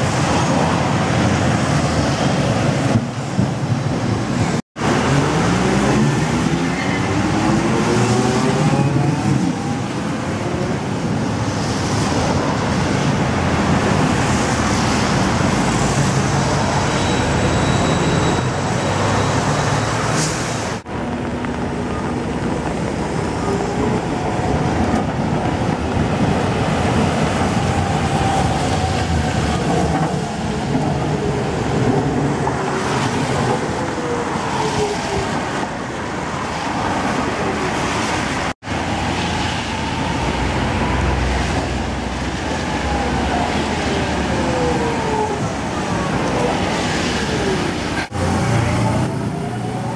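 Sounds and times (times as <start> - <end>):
tram whines: 0.0 - 49.9
tyres rushing on wet pavement: 0.0 - 49.9.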